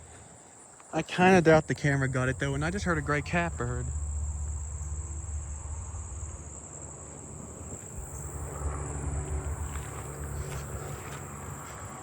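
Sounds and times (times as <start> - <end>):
katydids buzzing: 1.2 - 11.8
low rumble: 1.4 - 11.6.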